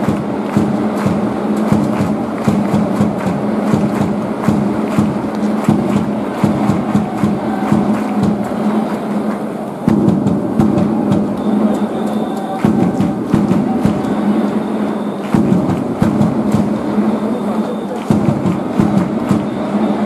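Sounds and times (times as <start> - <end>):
sharp claps or drum beats: 0.0 - 20.0
stadium crowd din: 0.0 - 20.0.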